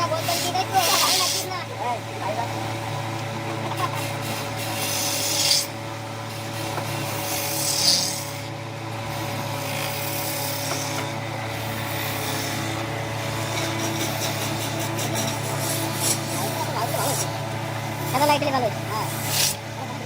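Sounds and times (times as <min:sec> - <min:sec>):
rasping strokes on wood: 0:00.0 - 0:01.7, 0:03.4 - 0:19.7
steady low hum: 0:00.0 - 0:20.0.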